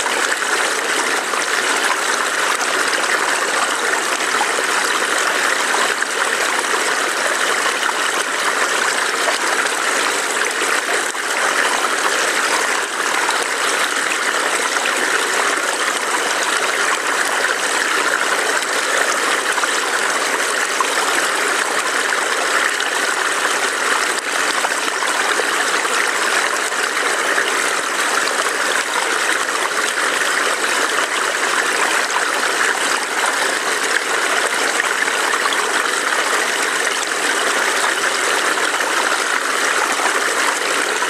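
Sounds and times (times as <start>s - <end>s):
stream splashing over rocks: 0.0s - 41.0s.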